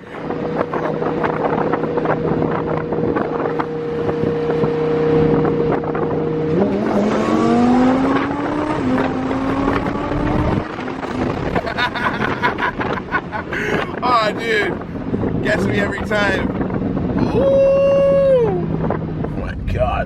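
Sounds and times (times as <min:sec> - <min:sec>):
car engine accelerating: 0:00.0 - 0:20.0
wind and road noise: 0:00.0 - 0:20.0.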